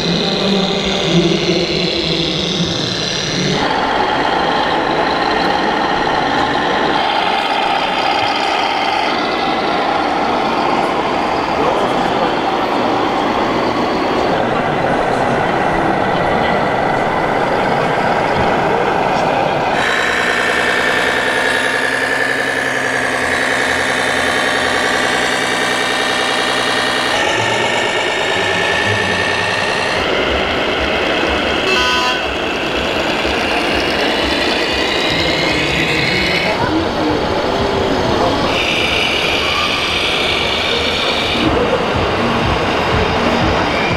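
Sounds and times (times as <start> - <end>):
simulated diesel engine sounds: 0.0 - 43.9
steady engine drone: 0.0 - 43.9.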